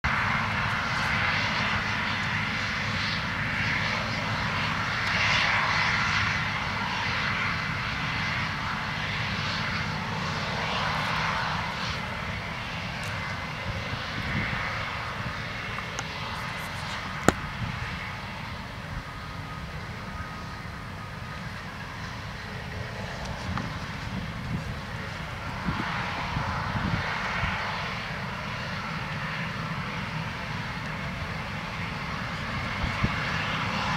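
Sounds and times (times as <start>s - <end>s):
broad rushing noise: 0.0s - 33.9s
diesel engine drone: 0.0s - 33.9s.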